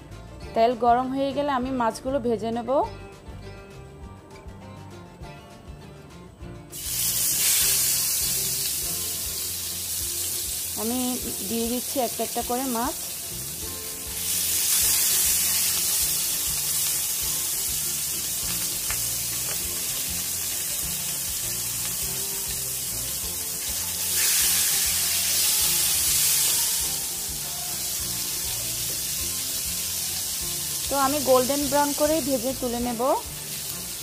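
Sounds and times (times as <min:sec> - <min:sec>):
fish sizzling in hot oil: 0:06.7 - 0:34.0.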